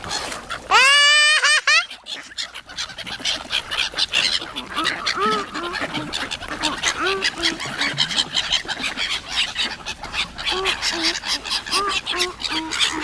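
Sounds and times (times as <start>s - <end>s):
ducks calling: 0.0s - 13.0s
gulls calling: 0.0s - 13.0s
wingbeats: 2.2s - 13.0s.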